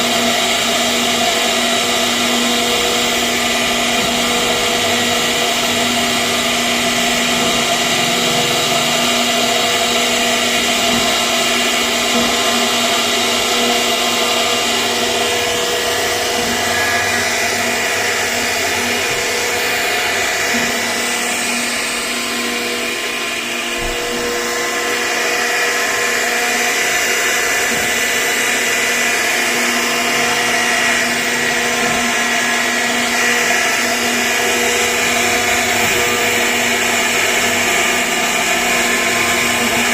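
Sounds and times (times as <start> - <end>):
router spindle whine carving wood: 0.0 - 39.9.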